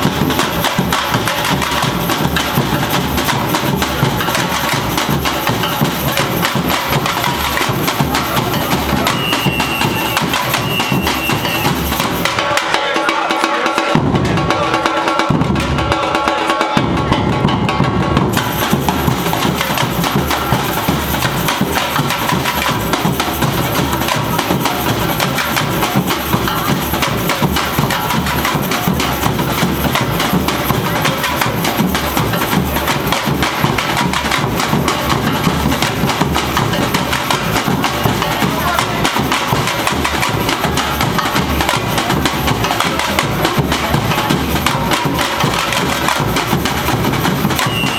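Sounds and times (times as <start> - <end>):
bass drums: 0.0 - 12.6, 16.8 - 47.9
samba drum ensemble: 0.0 - 47.9.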